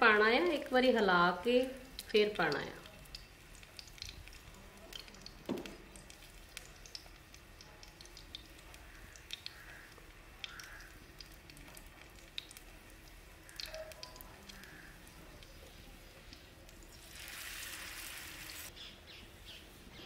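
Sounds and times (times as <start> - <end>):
bread sizzling in oil: 0.0 - 18.7.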